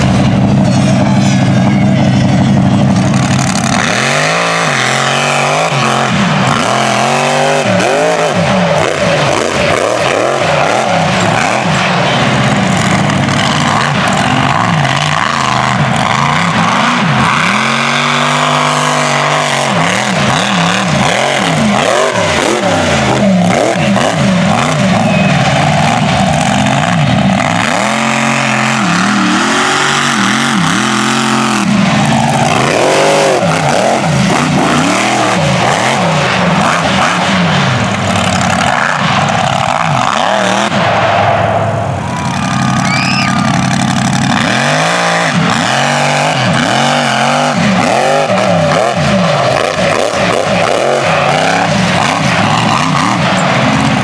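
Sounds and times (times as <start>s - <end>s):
truck engine revving: 0.0s - 54.0s.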